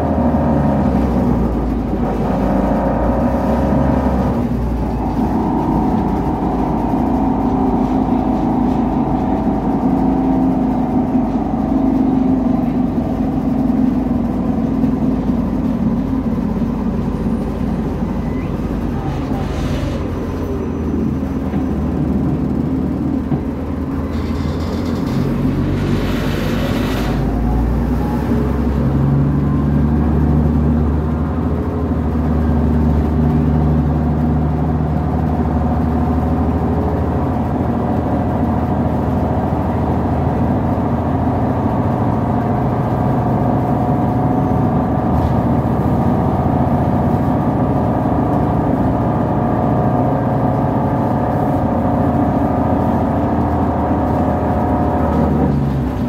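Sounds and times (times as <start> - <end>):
bus engine accelerating: 0.0 - 56.0
road noise: 0.0 - 56.0.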